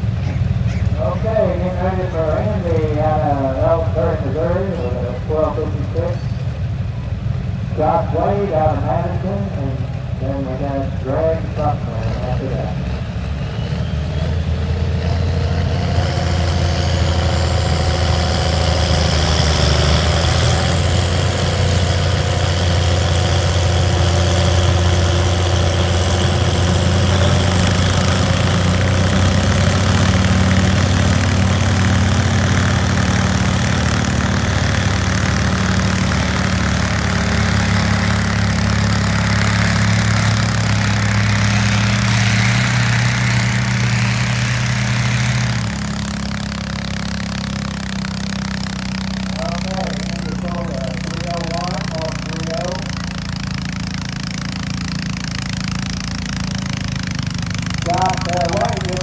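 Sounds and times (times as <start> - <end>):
high whine: 0.0 - 53.3
tractor engine running: 0.0 - 59.0.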